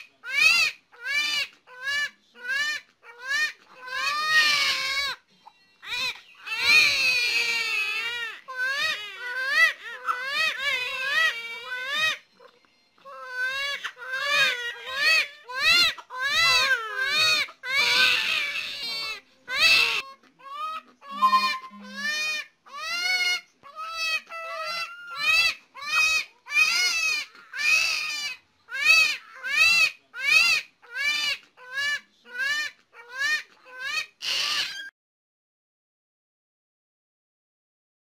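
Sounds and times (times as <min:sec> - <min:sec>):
babies crying: 0:00.0 - 0:05.2, 0:05.8 - 0:34.9.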